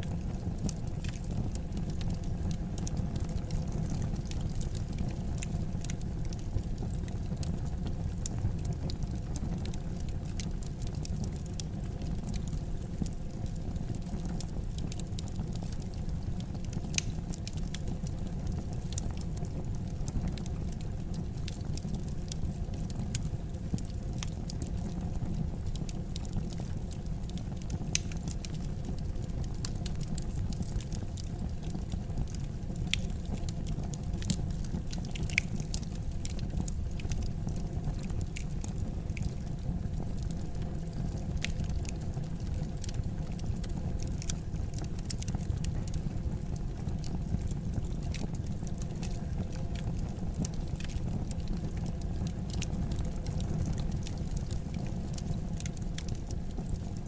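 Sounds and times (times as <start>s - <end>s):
burning wood crackling and popping: 0.0s - 57.0s
low rumble of flames: 0.0s - 57.0s.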